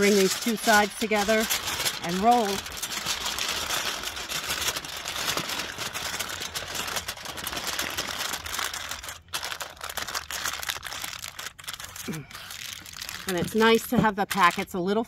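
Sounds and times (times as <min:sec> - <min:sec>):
aluminum foil crinkling: 0:00.0 - 0:15.0.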